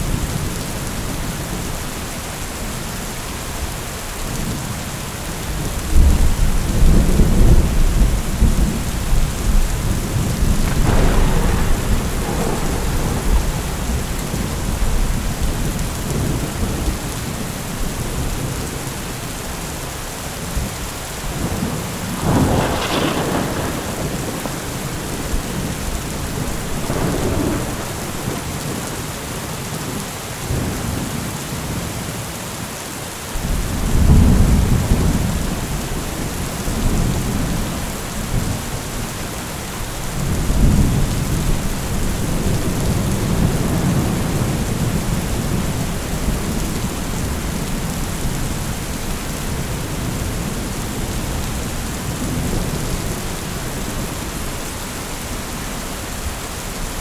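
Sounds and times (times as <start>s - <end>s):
heavy rain: 0.0s - 57.0s
thunder rumbling: 5.4s - 19.5s, 20.4s - 31.0s, 33.4s - 55.6s.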